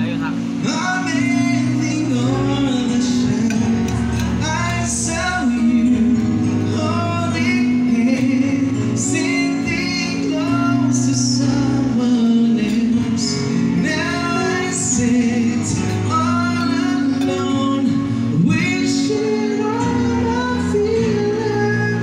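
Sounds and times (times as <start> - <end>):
live band playing: 0.0 - 22.0
person singing lead vocals: 0.2 - 22.0.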